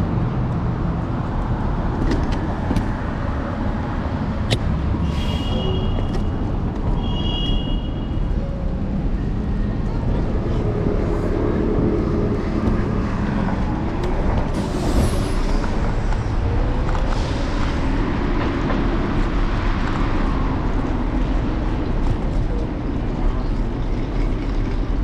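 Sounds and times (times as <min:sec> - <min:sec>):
rumble of street traffic: 0:00.0 - 0:25.0.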